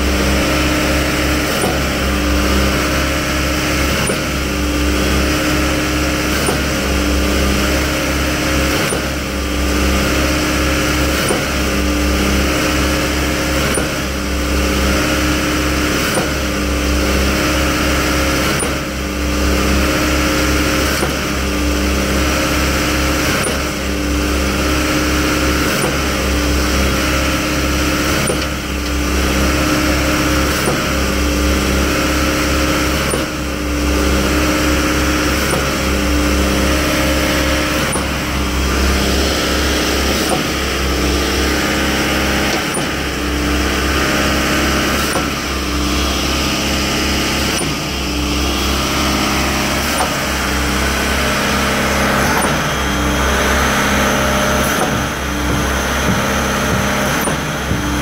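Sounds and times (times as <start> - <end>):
concrete pump engine humming: 0.0 - 58.0
pump pistons surging: 0.0 - 58.0.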